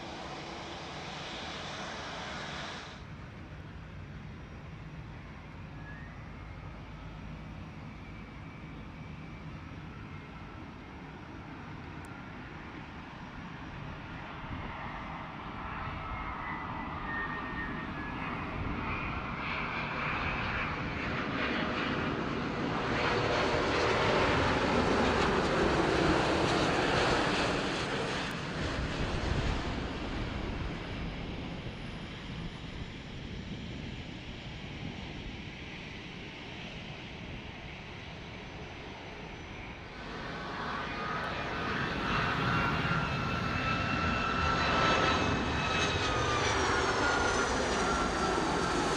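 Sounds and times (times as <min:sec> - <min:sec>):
jet airliner engines whining: 0:00.0 - 0:48.9.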